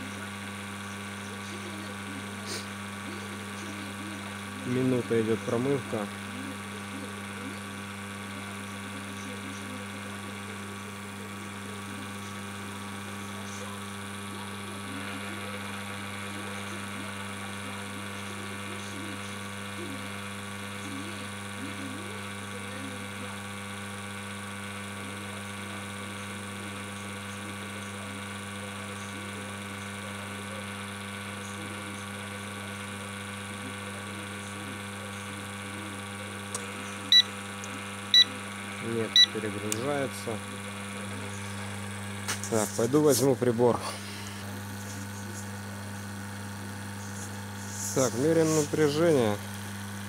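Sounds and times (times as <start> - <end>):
booster pump humming: 0.0 - 50.0.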